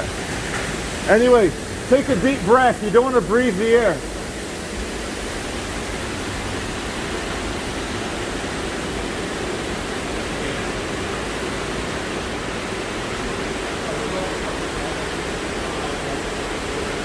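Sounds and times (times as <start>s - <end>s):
loud rushing hiss: 0.0s - 17.0s.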